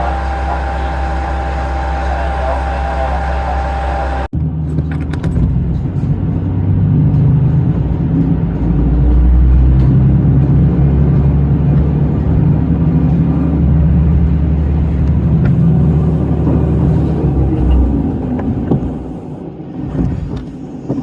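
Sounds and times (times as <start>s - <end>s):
diesel railcar engine and wheel rumble: 0.0s - 21.0s.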